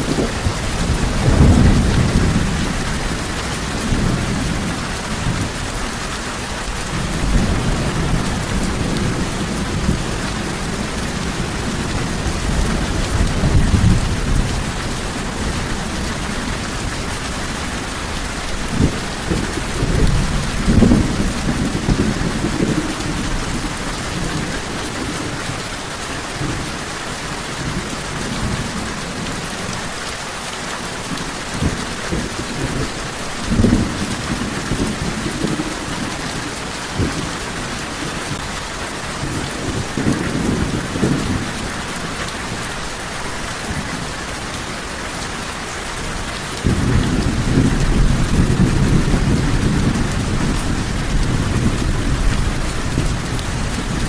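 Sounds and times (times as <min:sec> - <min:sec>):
low rolling thunder: 0:00.0 - 0:26.8, 0:31.5 - 0:43.0, 0:45.9 - 0:54.0
rain hissing: 0:00.0 - 0:54.0.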